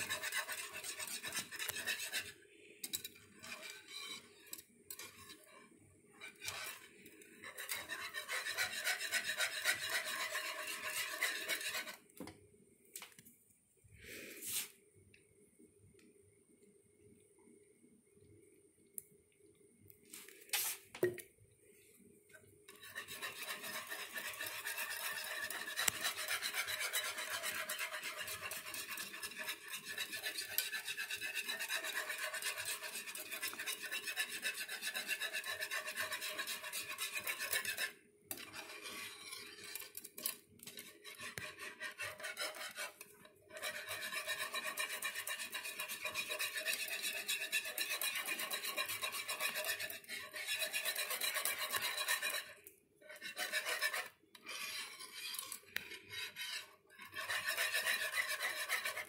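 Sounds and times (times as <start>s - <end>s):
wire whisk scraping metal pan: 0.0s - 12.0s, 22.7s - 59.0s.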